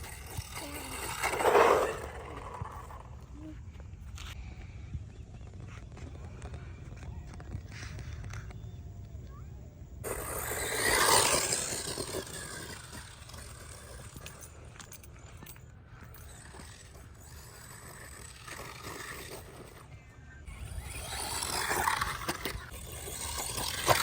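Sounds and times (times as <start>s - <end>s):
rc truck driving on rough ground: 0.0s - 24.0s.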